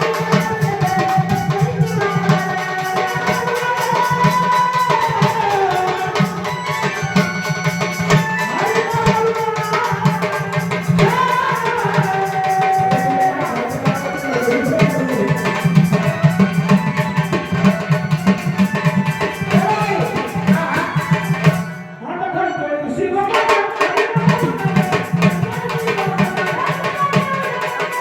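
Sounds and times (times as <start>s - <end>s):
fast hand-drum beat: 0.0s - 21.7s, 23.3s - 28.0s.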